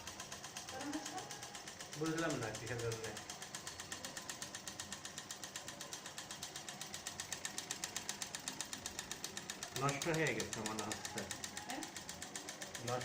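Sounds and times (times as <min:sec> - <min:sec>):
water purifier clicking rattle: 0:00.0 - 0:13.0.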